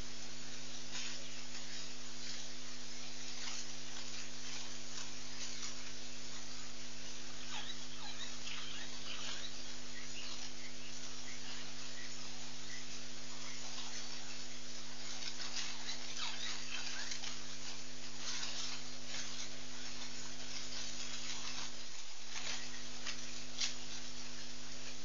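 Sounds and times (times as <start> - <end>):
electrical hum: 0.0 - 25.0
faint scratchy ticks: 0.9 - 25.0.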